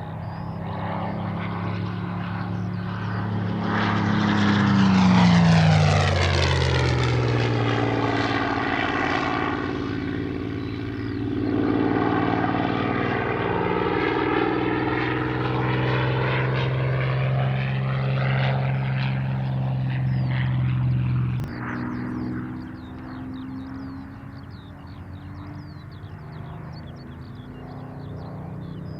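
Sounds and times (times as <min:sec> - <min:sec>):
propeller plane drone: 0:00.0 - 0:28.9.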